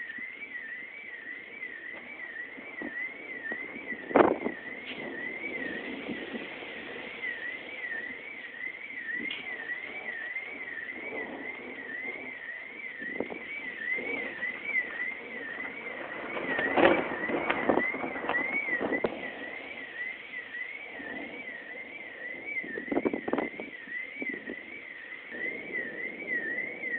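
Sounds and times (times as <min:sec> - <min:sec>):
electronic alarm siren wailing: 0:00.0 - 0:26.9
rumbles of noise: 0:00.0 - 0:26.9.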